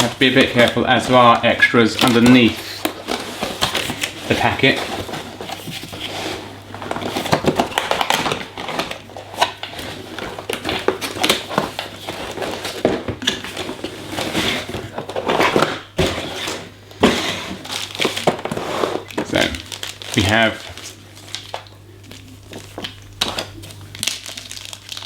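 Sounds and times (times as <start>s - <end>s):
packaging rustling: 0.0s - 25.0s.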